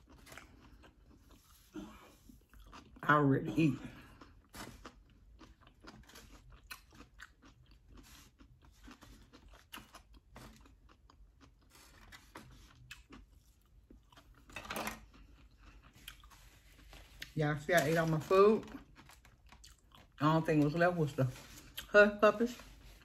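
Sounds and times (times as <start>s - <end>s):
person chewing and crunching food: 0.0s - 23.0s.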